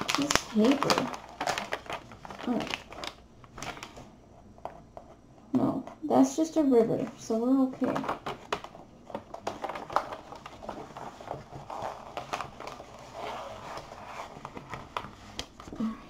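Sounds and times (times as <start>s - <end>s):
paper rustling and crinkling: 0.0s - 5.1s, 7.7s - 16.0s.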